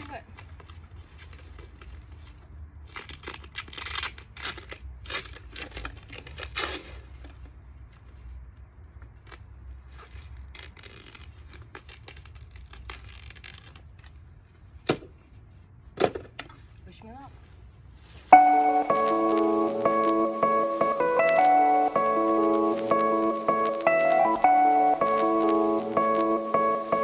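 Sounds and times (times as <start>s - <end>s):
stretch wrap crinkling: 0.0s - 15.8s, 17.4s - 27.0s.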